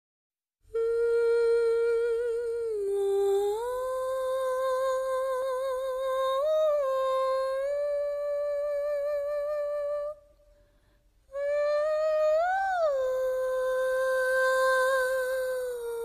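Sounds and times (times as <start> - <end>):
woman humming a melody: 0.7 - 10.2, 11.3 - 16.0.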